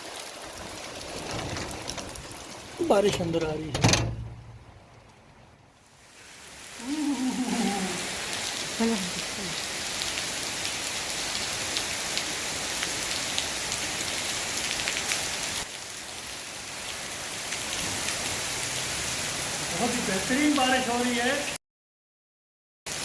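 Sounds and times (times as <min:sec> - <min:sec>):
rain drops ticking: 0:00.0 - 0:21.6
steady rain hiss: 0:00.0 - 0:21.6.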